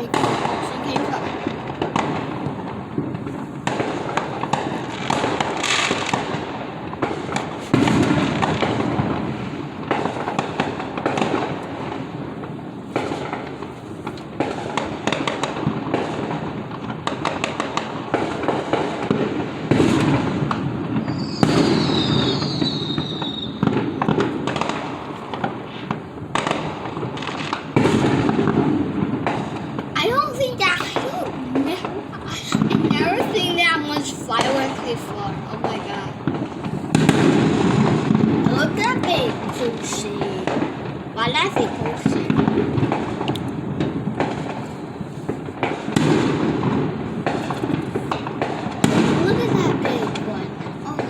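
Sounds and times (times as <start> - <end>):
whistling firework: 0.0 - 30.0, 33.9 - 51.0
fireworks bangs and crackling: 0.0 - 51.0.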